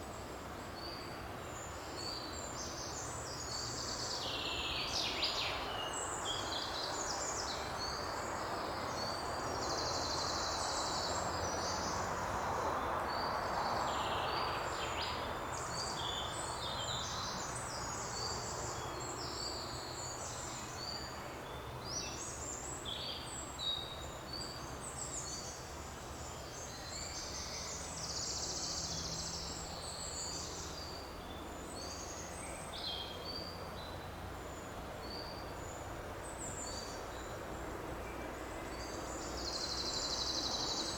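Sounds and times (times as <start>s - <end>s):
songbirds singing and trilling: 0.7s - 40.9s.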